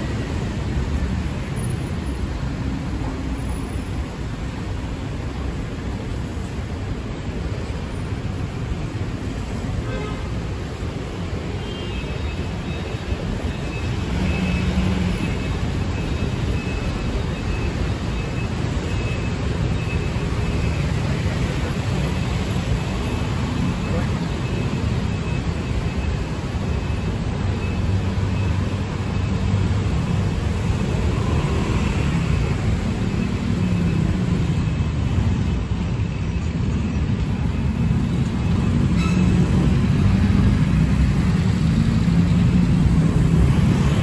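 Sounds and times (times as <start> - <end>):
passing cars and engines: 0.0 - 44.0.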